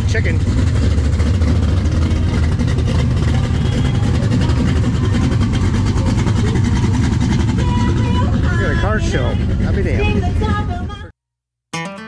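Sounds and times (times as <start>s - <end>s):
car engine and exhaust drone: 0.0s - 11.1s
road noise: 0.0s - 11.1s.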